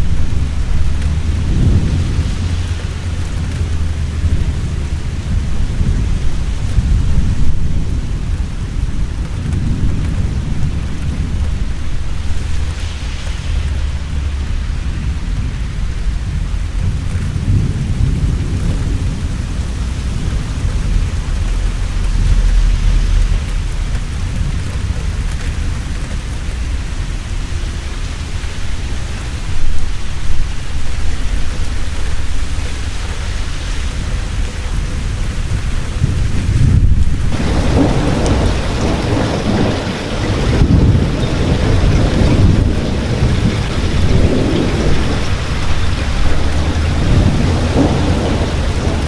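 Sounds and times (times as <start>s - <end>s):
heavy rain pouring: 0.0s - 49.0s
rolling thunder: 0.0s - 49.0s
thunder claps: 0.0s - 49.0s.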